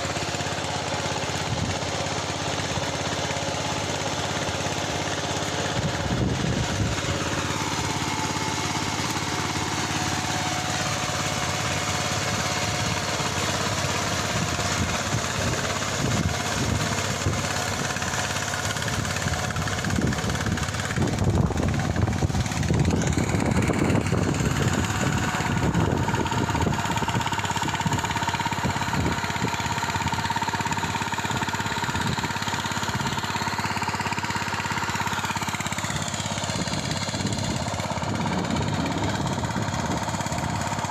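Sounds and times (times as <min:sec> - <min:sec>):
ploughing machine engine running: 0:00.0 - 0:40.9.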